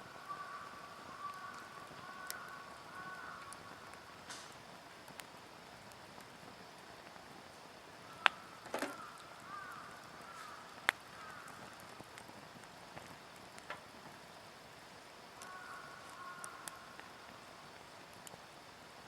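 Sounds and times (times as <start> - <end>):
fire popping: 0.0 - 19.0
pine logs crackling: 0.2 - 19.0.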